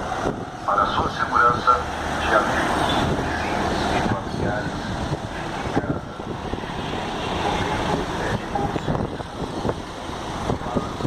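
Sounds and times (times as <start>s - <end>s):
vehicle road noise: 0.0s - 11.0s
wind buffeting microphone: 0.0s - 11.0s.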